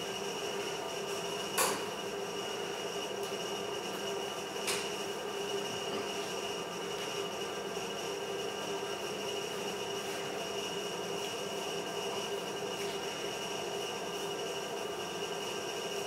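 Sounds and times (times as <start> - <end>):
machine hum with high whine: 0.0 - 16.0.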